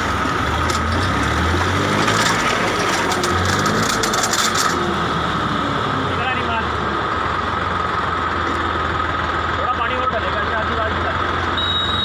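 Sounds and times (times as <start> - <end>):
tractor engine under load: 0.0 - 5.1, 6.9 - 12.0.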